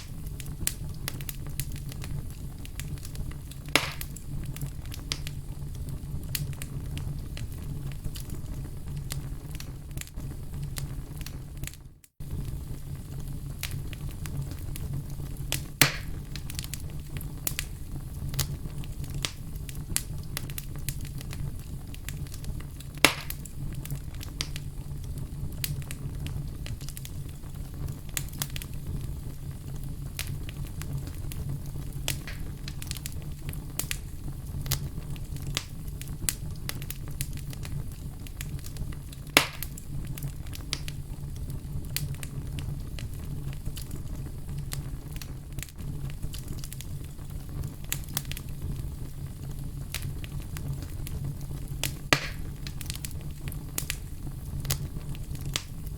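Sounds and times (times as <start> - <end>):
fire rumbling and crackling: 0.0 - 55.9
loud fire pops: 0.0 - 55.9.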